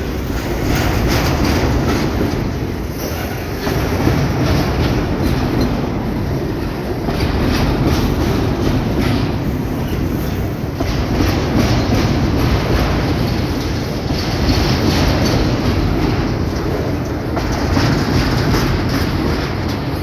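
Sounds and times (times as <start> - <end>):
freight train wheels clacking: 0.0 - 20.0.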